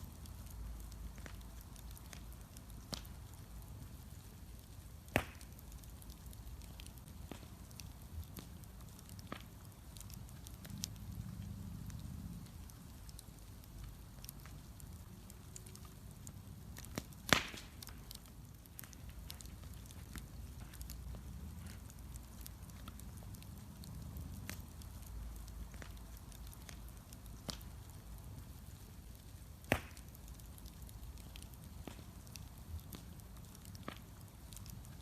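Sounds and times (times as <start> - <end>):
bonfire crackling: 0.0 - 35.0
loud fire pops: 0.8 - 35.0.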